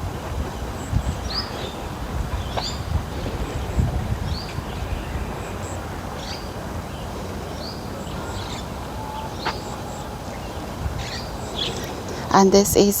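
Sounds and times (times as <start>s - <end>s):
bird calling: 0.0s - 12.4s
low outdoor rumble: 0.0s - 13.0s.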